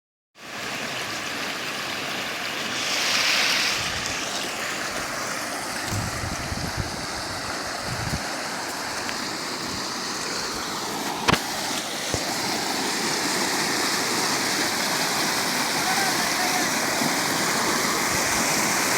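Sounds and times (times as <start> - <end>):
heavy rain hissing: 2.2 - 18.9.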